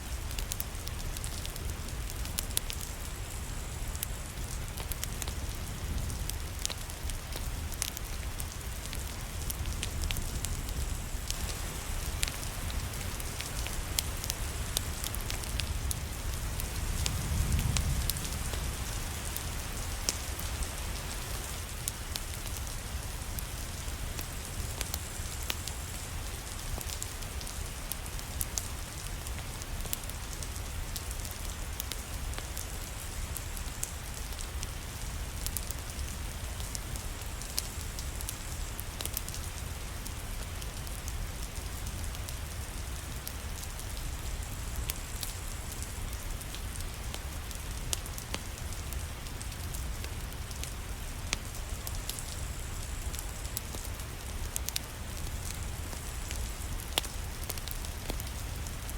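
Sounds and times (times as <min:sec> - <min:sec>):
fire crackling and popping: 0:00.0 - 0:58.9
steady rain: 0:00.0 - 0:58.9.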